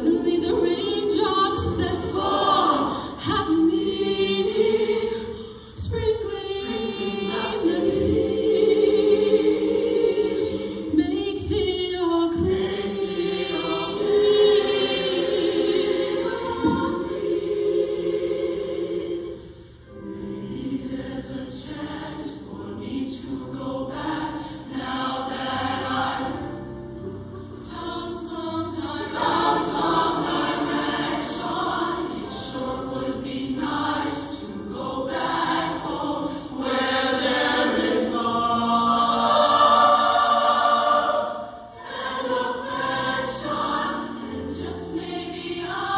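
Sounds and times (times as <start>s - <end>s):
large choir singing: 0.0s - 45.9s.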